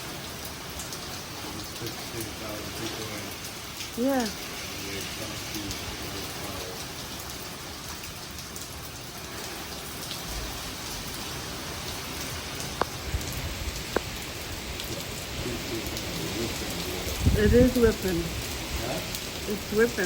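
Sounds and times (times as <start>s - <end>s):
heavy rain hissing: 0.0s - 20.0s
wind: 0.0s - 20.0s.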